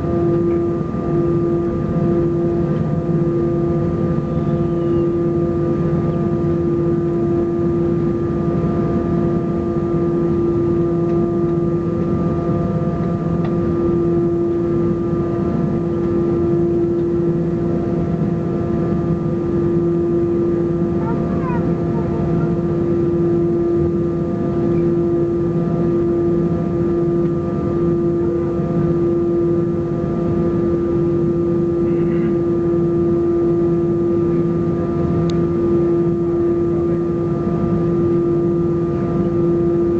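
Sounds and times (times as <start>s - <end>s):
jet engines in cabin rumbling: 0.0s - 39.9s.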